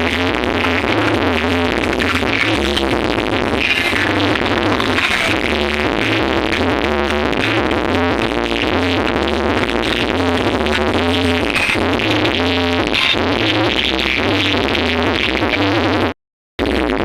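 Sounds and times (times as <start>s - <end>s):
loud electronic dance music: 0.0s - 17.0s.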